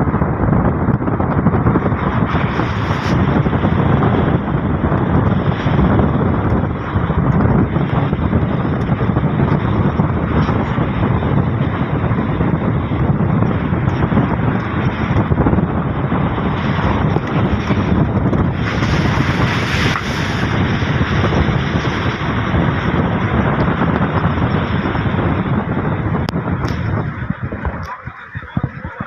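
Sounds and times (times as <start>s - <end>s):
moving vehicle noise: 0.0s - 29.0s
wind buffeting microphone: 0.0s - 29.0s.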